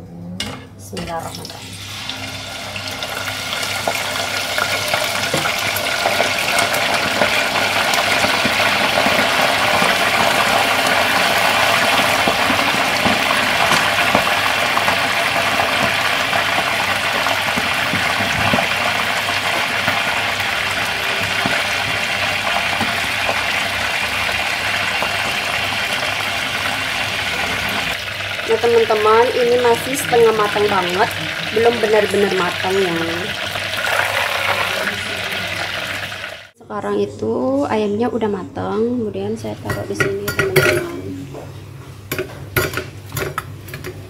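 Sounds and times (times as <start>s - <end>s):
oil sizzling and bubbling: 1.2s - 36.6s.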